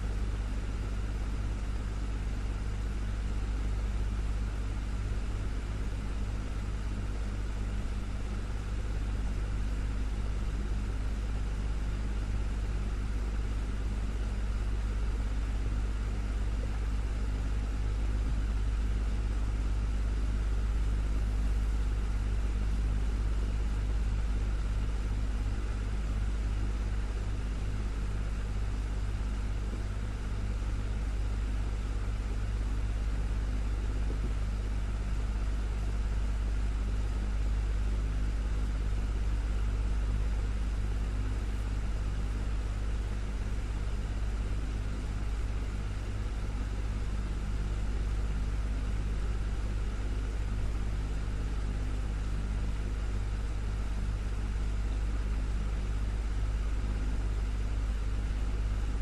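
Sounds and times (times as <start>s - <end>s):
desktop fan running: 0.0s - 59.0s.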